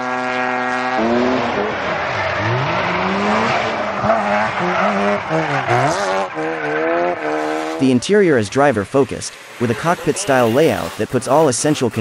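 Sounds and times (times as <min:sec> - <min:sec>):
car engine revving: 0:00.0 - 0:12.0
tyres squealing: 0:01.7 - 0:12.0.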